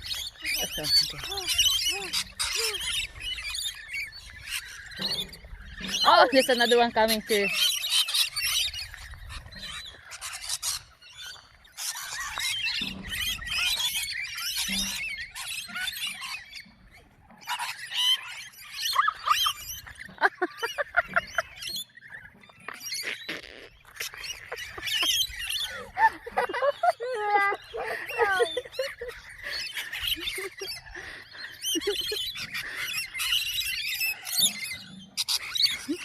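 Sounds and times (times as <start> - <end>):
birds chirping and squealing: 0.0 - 36.0.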